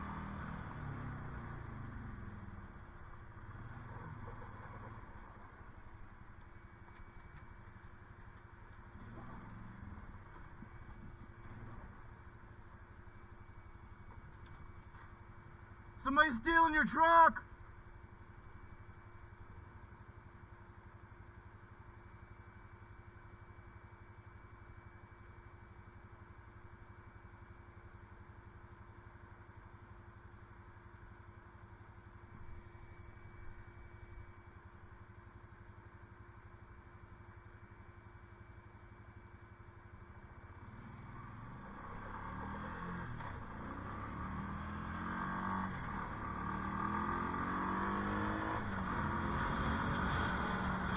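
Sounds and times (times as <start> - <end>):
atv engine idling: 0.0 - 16.1, 17.4 - 42.2.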